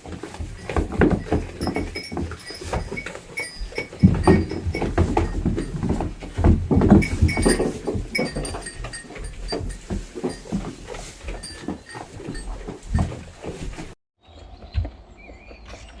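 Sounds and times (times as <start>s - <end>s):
farm animals rustling and clicking: 0.0s - 16.0s.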